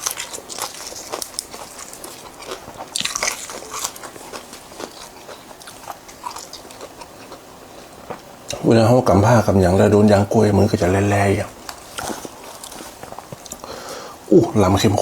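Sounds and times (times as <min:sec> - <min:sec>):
crunchy food chewing: 0:00.0 - 0:08.7, 0:10.8 - 0:14.4.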